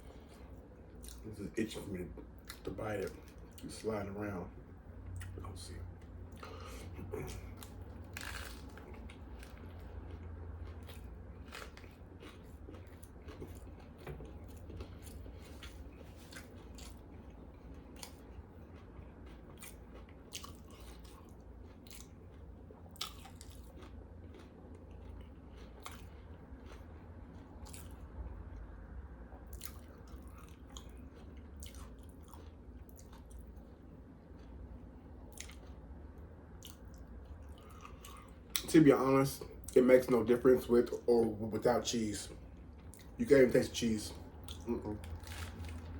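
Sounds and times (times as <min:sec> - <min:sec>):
chewing crunchy sandwich: 0:00.0 - 0:45.9
steady low hum: 0:00.0 - 0:45.9.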